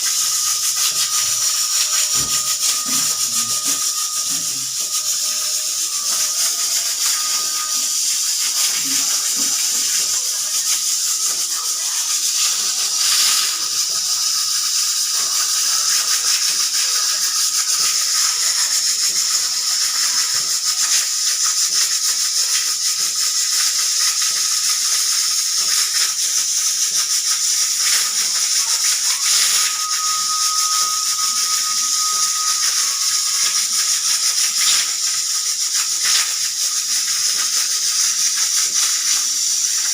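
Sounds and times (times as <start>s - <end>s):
faint thin whistle tone: 0.0s - 39.9s
fast fine rattle: 0.0s - 39.9s
pressure cooker steam hissing: 0.0s - 39.9s.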